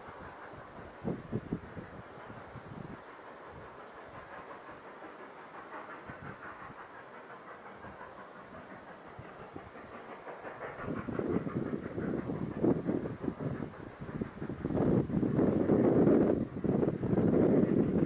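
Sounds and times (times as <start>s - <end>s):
wind on microphone: 0.0s - 4.5s, 5.7s - 6.9s, 7.6s - 18.0s
distant steam locomotive hiss: 0.0s - 18.0s.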